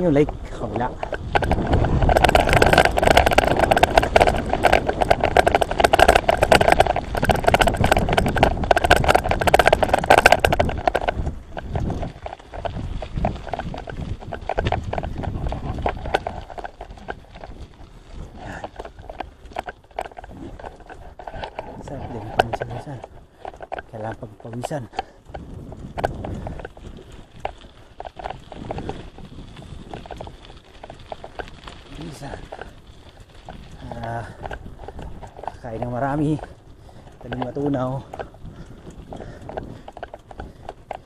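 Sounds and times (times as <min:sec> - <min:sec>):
bicycle tyres crunching on gravel: 0:00.0 - 0:41.0
bike rattling over bumps: 0:00.0 - 0:41.0.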